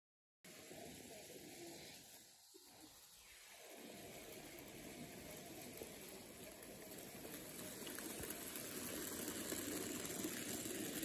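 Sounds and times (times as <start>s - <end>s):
model train running on track: 0.5s - 11.0s.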